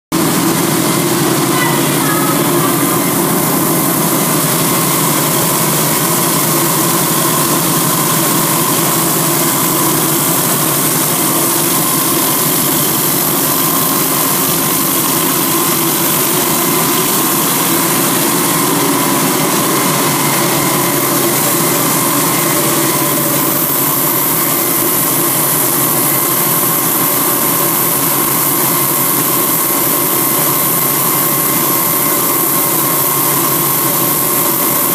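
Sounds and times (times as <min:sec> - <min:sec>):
wire saw machine drone: 0:00.2 - 0:34.9.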